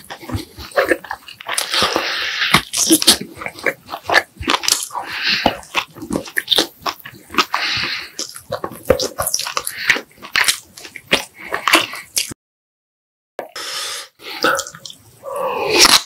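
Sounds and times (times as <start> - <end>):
person chewing food: 0.0 - 12.4, 13.4 - 16.0.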